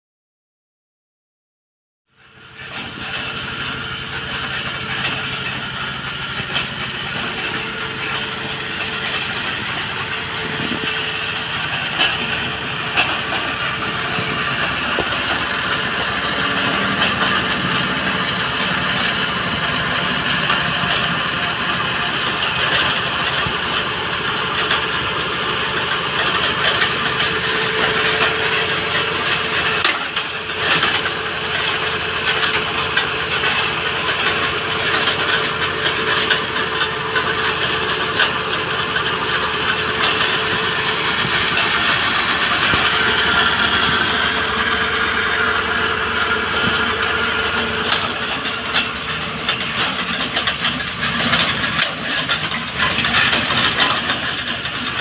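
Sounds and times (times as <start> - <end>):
drilling machine engine running: 2.1 - 55.0.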